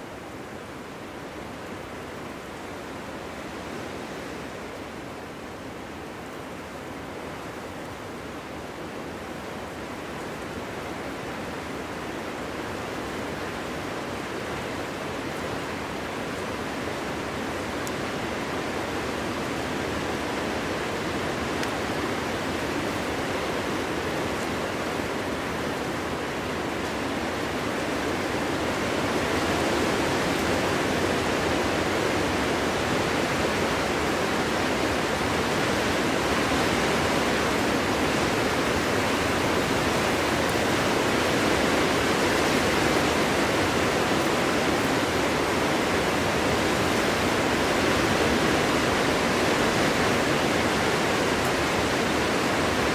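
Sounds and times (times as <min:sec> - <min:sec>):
wind blowing through forest: 0:00.0 - 0:52.9.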